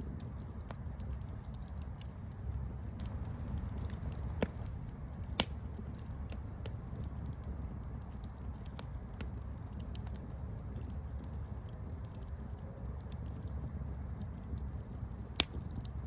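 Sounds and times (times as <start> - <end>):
low fire rumble: 0.0 - 16.0
wood crackling: 0.0 - 16.0.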